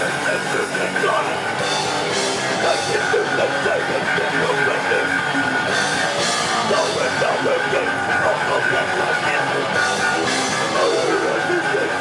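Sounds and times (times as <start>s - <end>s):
thrash metal band playing live: 0.0s - 12.0s.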